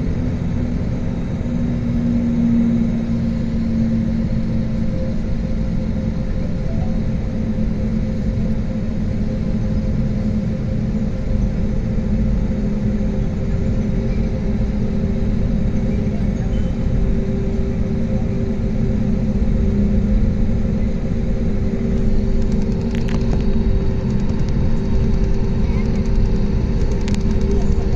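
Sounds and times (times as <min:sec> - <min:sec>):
jet engines rumbling in cabin: 0:00.0 - 0:27.9.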